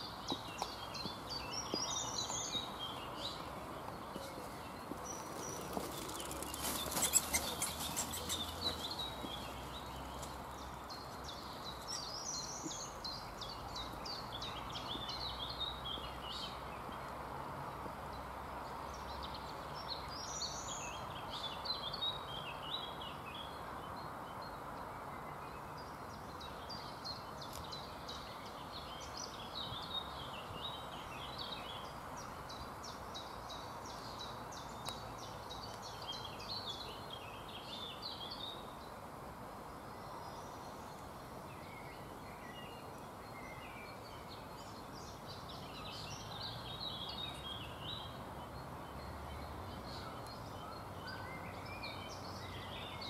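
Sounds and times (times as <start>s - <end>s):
outdoor background hiss: 0.0s - 53.0s
songbirds chirping: 0.0s - 53.0s.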